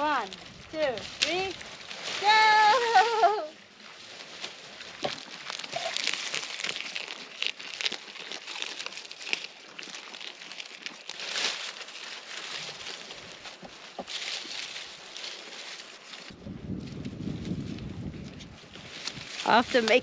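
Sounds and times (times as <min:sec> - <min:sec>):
dry husks crackling and rustling: 0:00.0 - 0:20.0
goats chewing dry corn stalks: 0:00.0 - 0:20.0.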